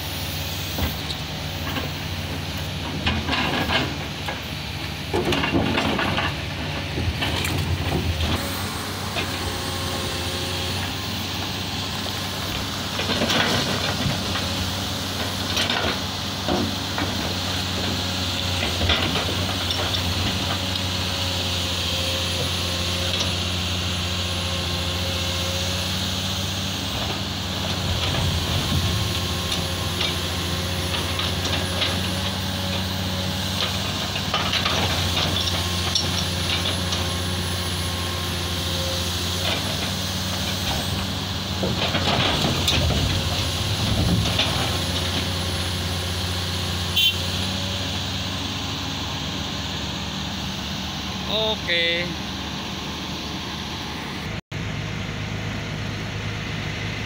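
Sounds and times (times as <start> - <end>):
heavy diesel engines running: 0.0 - 57.0
soil and rocks clattering from dump bed: 0.7 - 24.6, 25.5 - 47.9.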